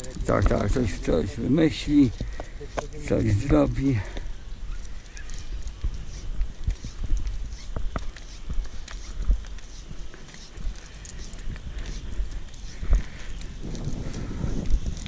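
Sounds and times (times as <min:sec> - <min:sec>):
wind rumbling on microphone: 0:00.0 - 0:15.0
rope knocking and rustling on rock: 0:02.0 - 0:15.0.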